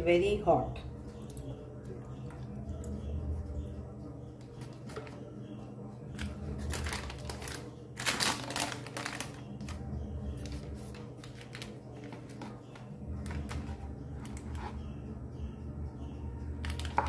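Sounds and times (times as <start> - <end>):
steady low hum: 0.0 - 8.2, 9.3 - 17.0.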